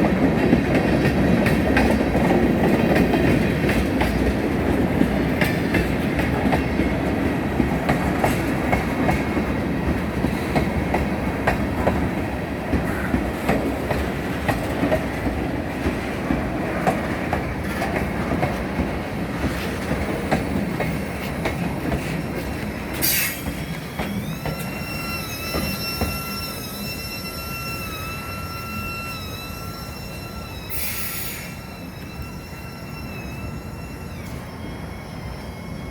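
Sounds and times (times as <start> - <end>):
train wheels clacking: 0.0 - 34.5
train rumble: 0.0 - 35.9.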